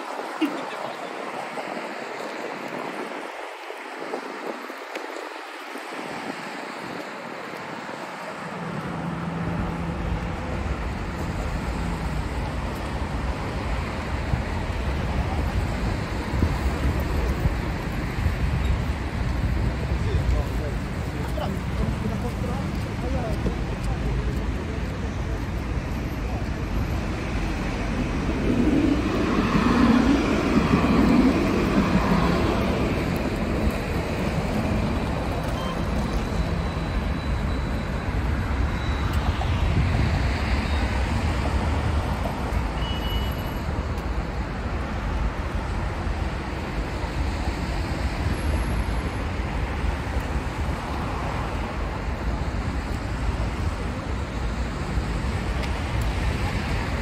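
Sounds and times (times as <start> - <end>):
traffic on wet roads: 0.0 - 57.0.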